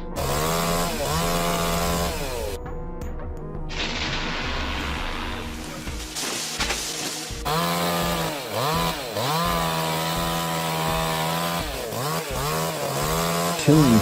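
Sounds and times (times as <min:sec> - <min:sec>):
chainsaw engine revving: 0:00.0 - 0:02.6, 0:04.9 - 0:14.0.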